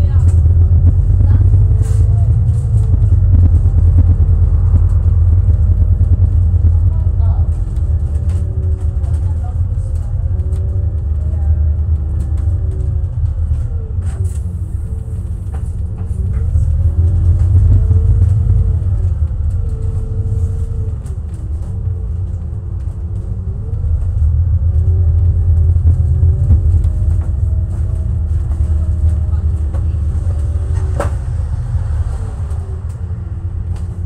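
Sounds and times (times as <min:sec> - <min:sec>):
bus engine rumbling: 0:00.0 - 0:34.0.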